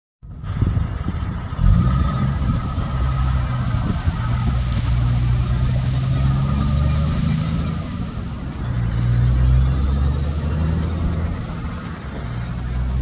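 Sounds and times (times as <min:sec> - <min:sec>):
heavy truck engine drone: 0:00.2 - 0:13.0.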